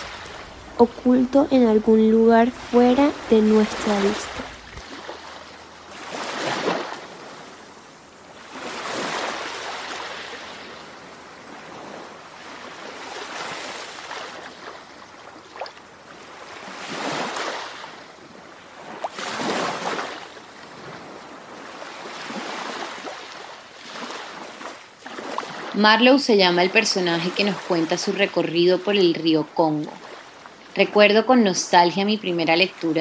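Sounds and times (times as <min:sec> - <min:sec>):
ocean waves washing in: 0:00.0 - 0:33.0.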